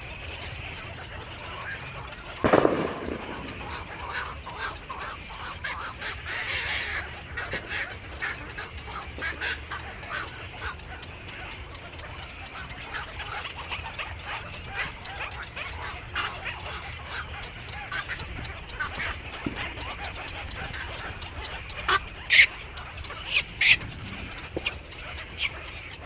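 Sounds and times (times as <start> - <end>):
birds chirping and squawking: 0.0 - 26.0
steady low hum: 0.0 - 26.0.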